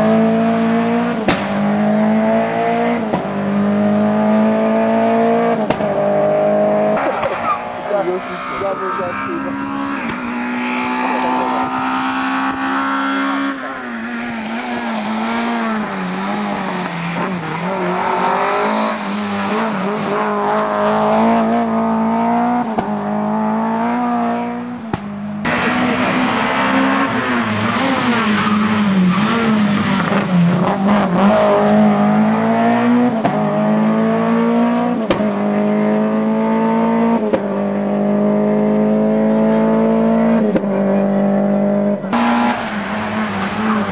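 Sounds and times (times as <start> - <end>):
rally car engine revving through gears: 0.0 - 43.9.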